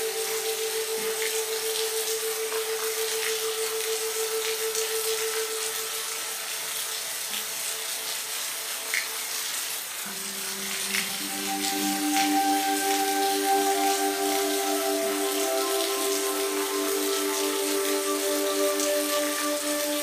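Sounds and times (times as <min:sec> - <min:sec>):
gently pulsing musical tone: 0:00.0 - 0:08.5, 0:10.1 - 0:20.0
steady rain hiss: 0:00.0 - 0:20.0.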